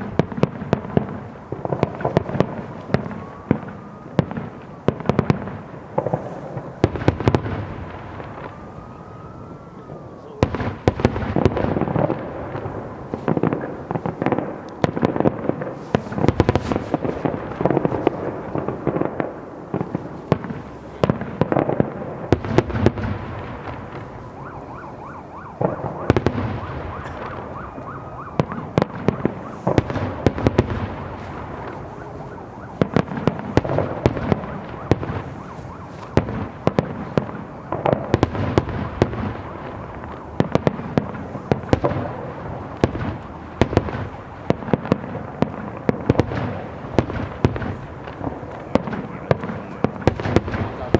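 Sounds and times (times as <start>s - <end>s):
firework bangs and crackling: 0.0s - 50.9s.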